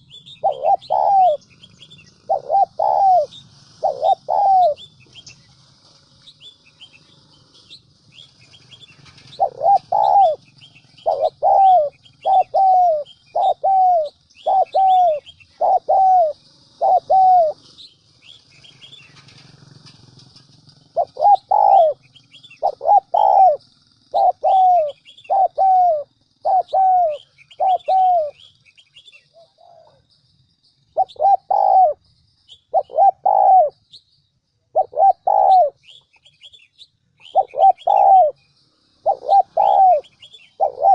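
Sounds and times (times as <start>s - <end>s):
dove cooing: 0.0s - 30.0s, 30.9s - 32.0s, 32.7s - 33.8s, 34.7s - 36.5s, 37.2s - 38.4s, 39.0s - 40.9s
small birds chirping: 0.0s - 40.9s.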